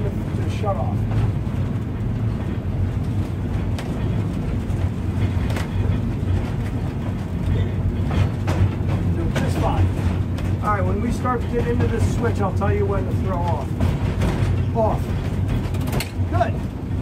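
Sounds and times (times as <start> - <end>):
streetcar rumbling on rails: 0.0 - 17.0.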